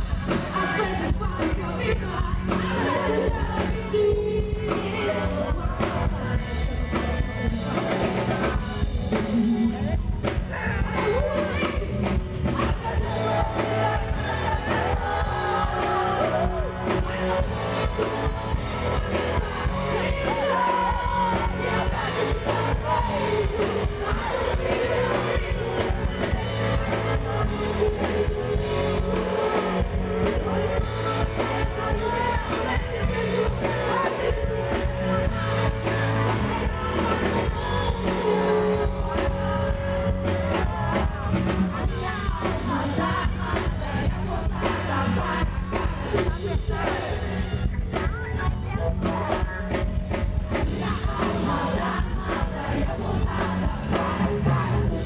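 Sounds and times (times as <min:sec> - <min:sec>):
woman singing into microphone: 0:00.0 - 0:49.9, 0:50.5 - 0:55.0
pop-rock backing music: 0:00.0 - 0:55.0.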